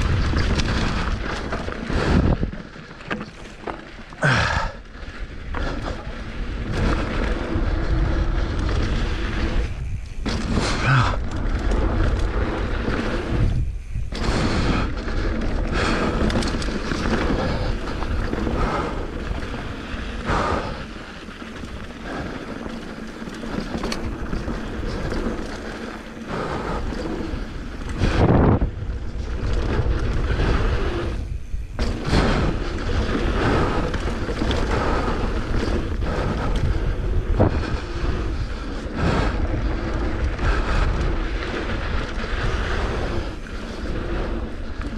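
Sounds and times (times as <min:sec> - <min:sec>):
bike knocks and rattles: 0:00.0 - 0:44.9
bike tyres over dirt and stones: 0:00.0 - 0:44.9
wind buffeting microphone: 0:00.0 - 0:44.9.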